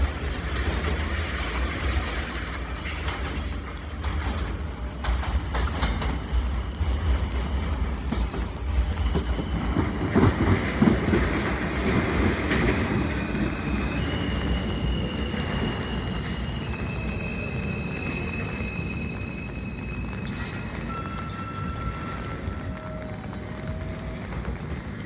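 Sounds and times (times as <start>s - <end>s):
subway train rumble: 0.0s - 25.0s
wheels clattering over rail joints: 0.0s - 25.0s.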